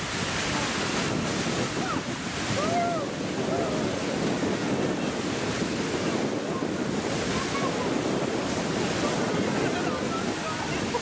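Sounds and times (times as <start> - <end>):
geyser water jet rushing: 0.0 - 11.0.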